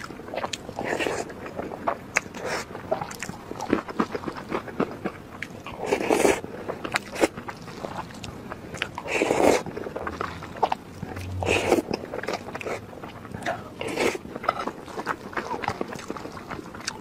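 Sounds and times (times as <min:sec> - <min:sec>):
wet chewing and mouth clicks: 0:00.0 - 0:17.0
slurping: 0:00.3 - 0:17.0.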